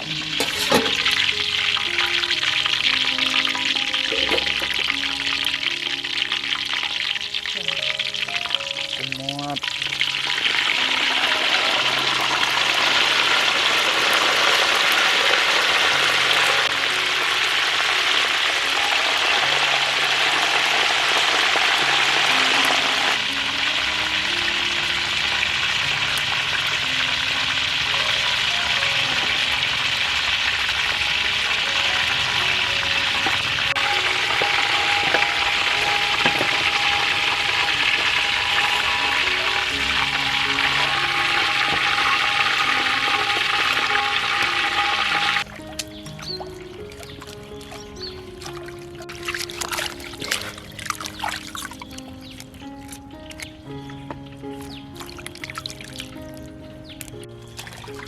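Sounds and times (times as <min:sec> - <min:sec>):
food sizzling in hot oil: 0:00.0 - 0:47.8
background music: 0:00.0 - 0:58.0.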